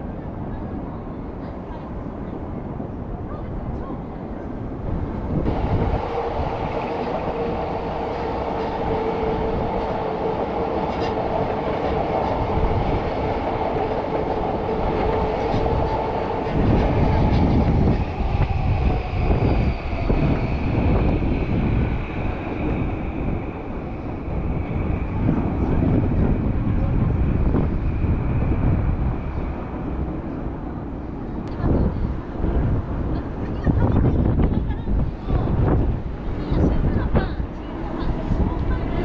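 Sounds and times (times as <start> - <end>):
electric train hum: 0.0 - 39.0
low train rumbling: 0.0 - 39.0.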